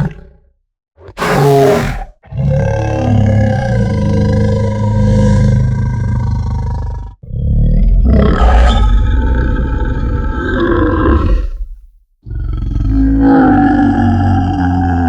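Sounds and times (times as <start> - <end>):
deep creature roars: 0.0 - 15.0.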